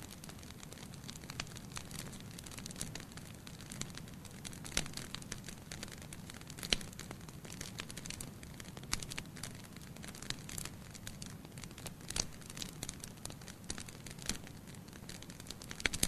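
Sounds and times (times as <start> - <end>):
wood fire hissing and crackling: 0.0 - 16.0.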